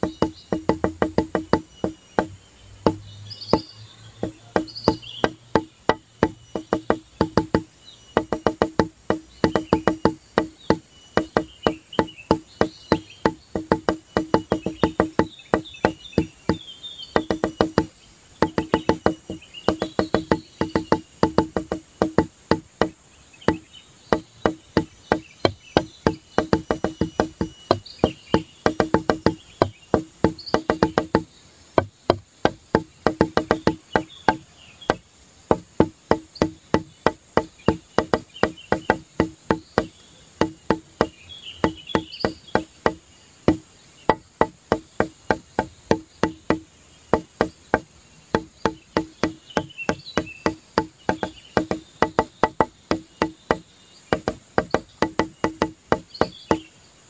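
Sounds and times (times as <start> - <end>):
plucky percussive tune: 0.0 - 16.6, 17.2 - 46.6.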